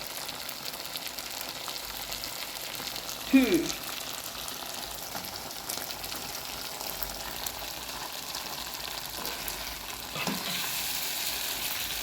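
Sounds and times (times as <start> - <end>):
liver sizzling in a pan: 0.0 - 12.0.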